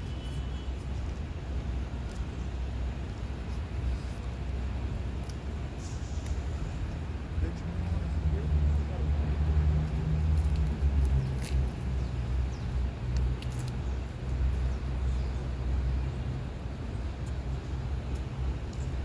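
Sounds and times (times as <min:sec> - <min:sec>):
distant city traffic rumble: 0:00.0 - 0:19.0.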